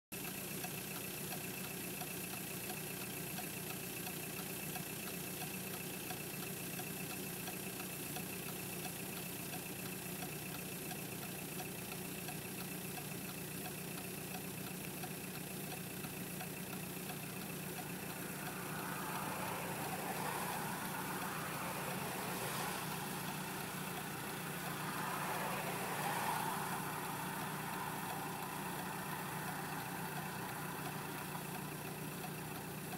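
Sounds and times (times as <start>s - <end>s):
car engine idling: 0.2s - 32.9s.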